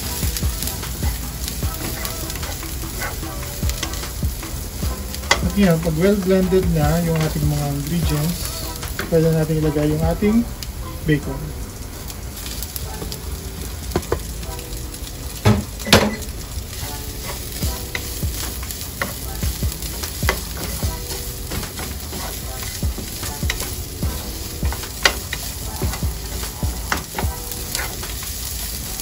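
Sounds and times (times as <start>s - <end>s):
bacon sizzling in oil: 0.0s - 29.0s.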